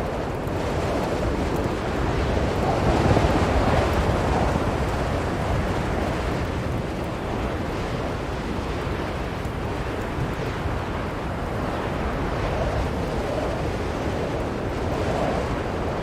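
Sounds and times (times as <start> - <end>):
blizzard wind: 0.0 - 16.0.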